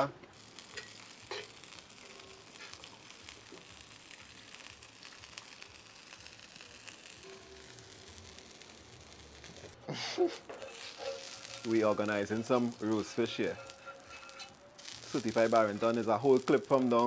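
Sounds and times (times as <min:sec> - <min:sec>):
leaves sizzling in a pot: 0:00.0 - 0:17.0.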